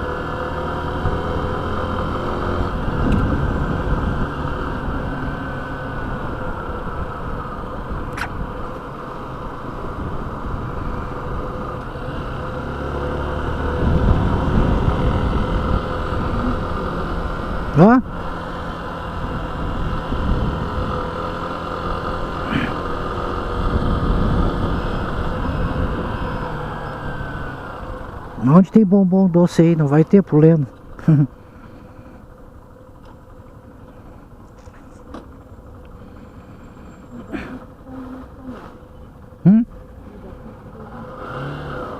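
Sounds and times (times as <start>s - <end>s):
motorcycle engine running: 0.0s - 41.9s
road noise: 0.0s - 41.9s.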